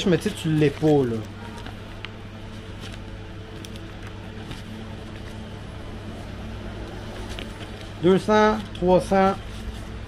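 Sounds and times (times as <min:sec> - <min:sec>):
banknotes being flipped: 0:00.0 - 0:10.0
steady low hum: 0:00.0 - 0:10.0.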